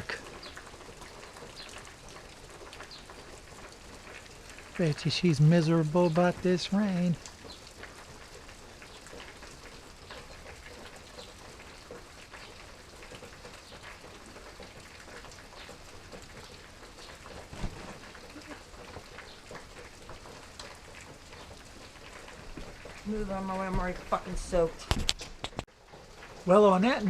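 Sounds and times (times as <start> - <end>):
raindrops ticking: 0.0 - 27.0
steady rain falling: 0.0 - 27.0.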